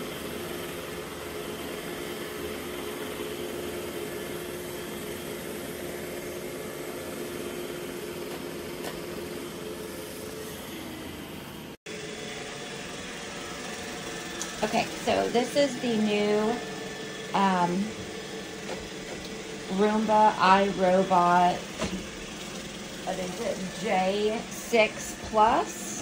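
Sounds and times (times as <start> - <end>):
robot vacuum motor hum: 0.0 - 26.0.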